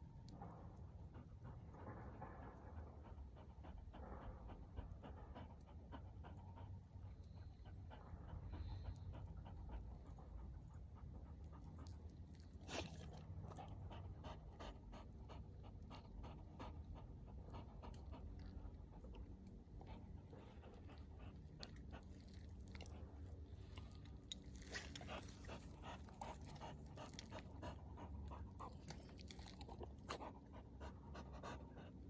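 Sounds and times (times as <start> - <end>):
dog panting rapidly: 0.5 - 32.0.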